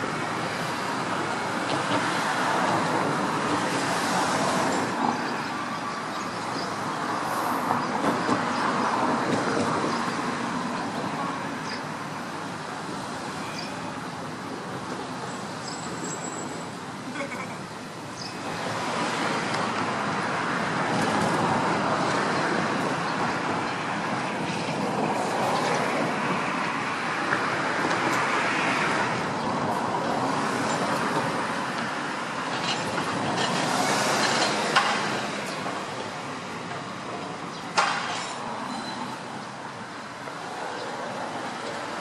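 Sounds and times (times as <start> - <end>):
road traffic noise: 0.0 - 42.0.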